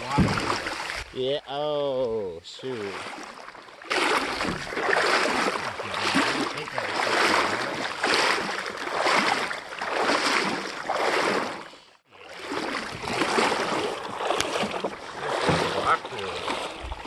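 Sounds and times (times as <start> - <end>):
water sloshing and splashing: 0.0 - 1.2, 2.6 - 17.0.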